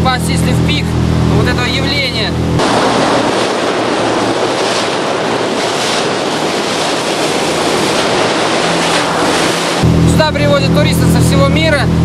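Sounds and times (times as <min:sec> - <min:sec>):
rushing water: 0:00.0 - 0:12.0
wind buffeting microphone: 0:00.0 - 0:12.0.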